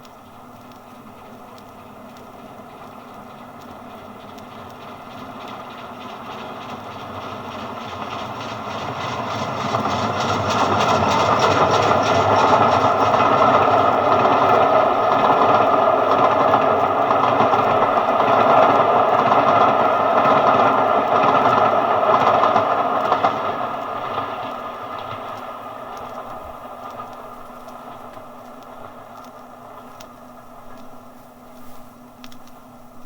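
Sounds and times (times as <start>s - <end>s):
train rumbling and clattering past: 2.1s - 31.5s.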